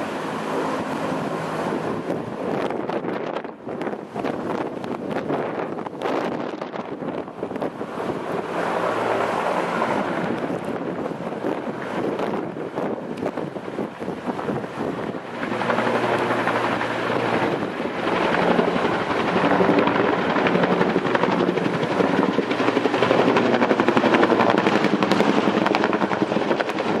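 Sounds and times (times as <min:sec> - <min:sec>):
helicopter rotor thudding overhead: 0:00.0 - 0:27.0.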